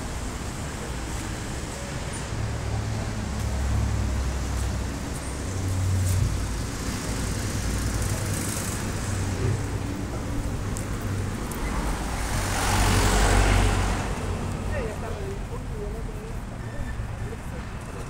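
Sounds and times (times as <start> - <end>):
cars rumbling along road: 0.0 - 18.0.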